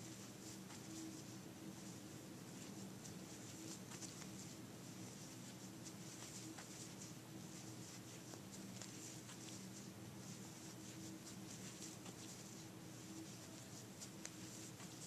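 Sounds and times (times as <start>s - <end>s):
crochet hook scratching yarn: 0.0s - 15.0s
low steady hum: 0.0s - 15.0s.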